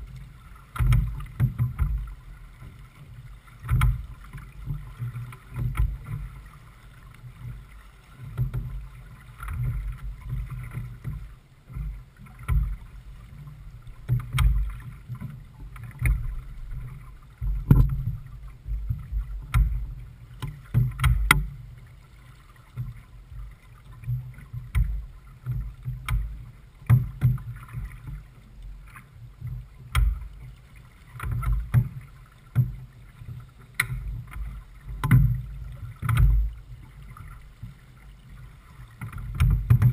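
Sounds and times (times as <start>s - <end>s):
water against boat hull: 0.0s - 39.9s.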